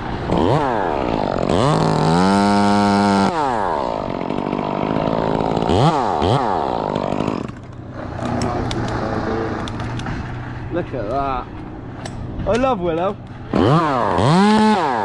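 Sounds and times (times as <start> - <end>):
chainsaw engine revving: 0.0 - 10.6, 13.4 - 15.0.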